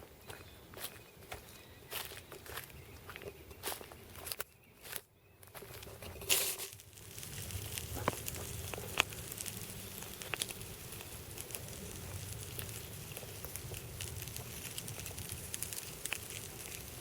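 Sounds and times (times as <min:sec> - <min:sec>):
clicks and crackles of dry leaves: 0:00.2 - 0:17.0.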